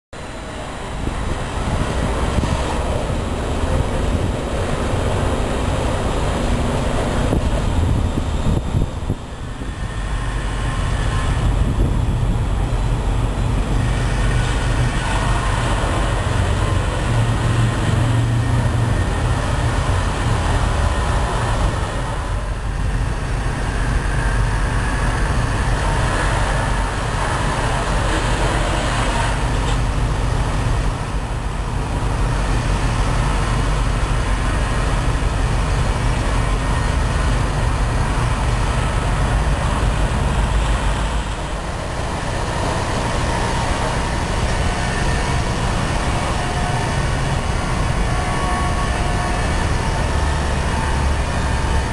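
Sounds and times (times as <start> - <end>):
car wash rumble: 0.2 - 51.9.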